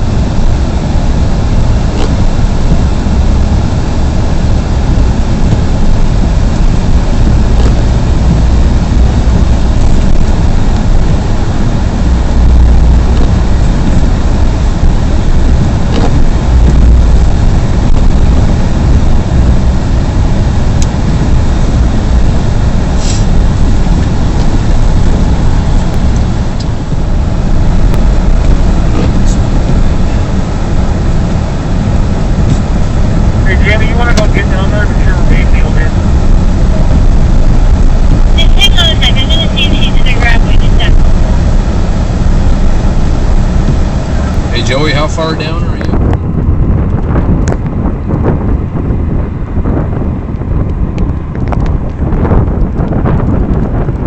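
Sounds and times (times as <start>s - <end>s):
road noise: 0.0s - 54.0s
vehicle engine rumble: 0.0s - 54.0s.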